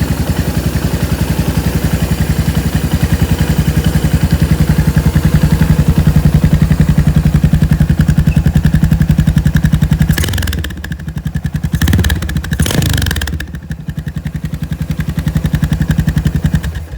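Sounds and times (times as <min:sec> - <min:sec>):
engine throttle blips: 0:00.0 - 0:13.9
motorcycle engine idling: 0:00.0 - 0:16.9.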